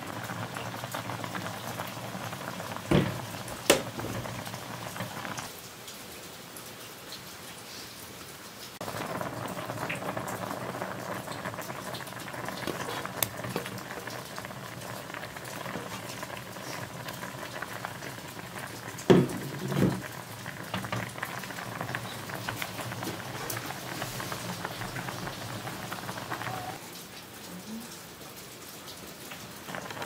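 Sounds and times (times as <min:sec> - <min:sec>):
soup boiling and bubbling: 0:00.0 - 0:05.6, 0:08.8 - 0:26.9, 0:29.1 - 0:30.0.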